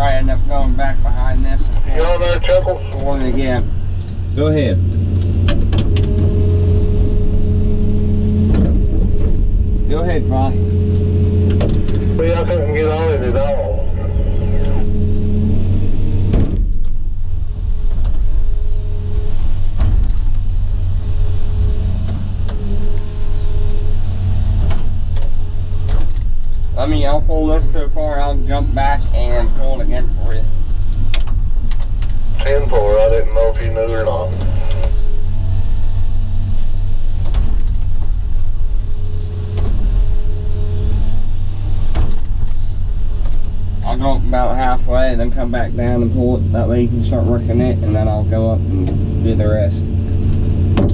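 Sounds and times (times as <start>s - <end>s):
excavator diesel engine running: 0.0s - 50.9s
hydraulic whine: 0.0s - 50.9s.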